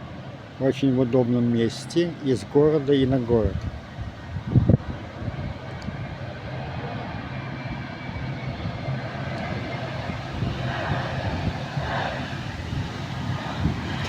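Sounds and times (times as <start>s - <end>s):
jet engine hiss: 0.0s - 14.0s
jet engines rumbling: 0.0s - 14.0s
low hum: 0.0s - 14.0s.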